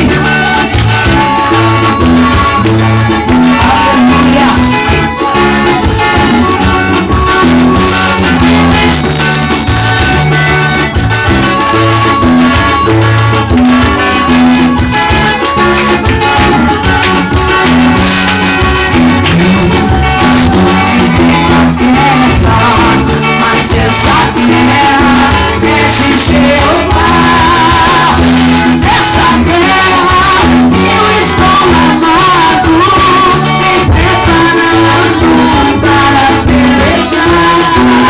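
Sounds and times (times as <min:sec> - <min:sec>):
gospel band music: 0:00.0 - 0:38.0.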